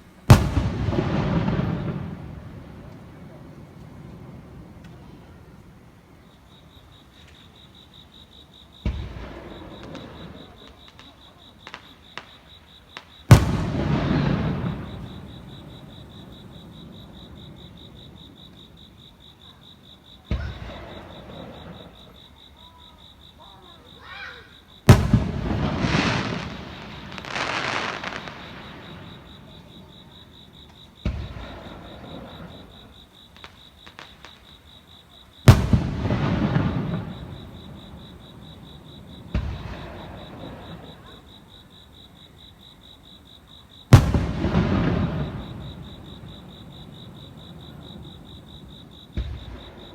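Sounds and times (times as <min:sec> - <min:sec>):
small fireworks cracks: 0:00.0 - 0:06.4, 0:07.0 - 0:07.8, 0:08.8 - 0:41.7, 0:43.8 - 0:49.9
fireworks booming: 0:00.0 - 0:07.8, 0:08.7 - 0:19.1, 0:20.2 - 0:22.8, 0:24.8 - 0:34.7, 0:35.4 - 0:41.7, 0:43.9 - 0:49.9.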